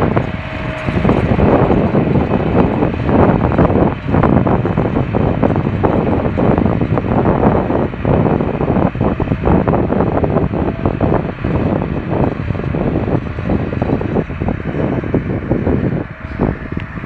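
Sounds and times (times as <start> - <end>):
tractor diesel engine under load: 0.0 - 17.0
wind buffeting microphone: 0.0 - 17.0.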